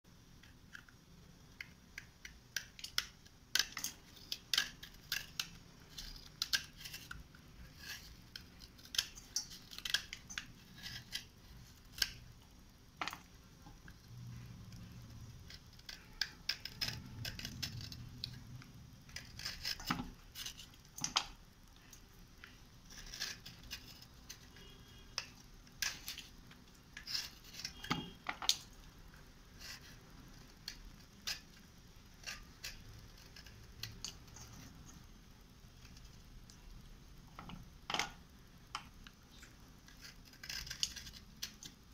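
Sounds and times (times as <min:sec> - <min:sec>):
slate pieces clicking and scraping: 0:00.4 - 0:12.4, 0:13.0 - 0:28.9, 0:29.6 - 0:35.1, 0:37.3 - 0:41.9.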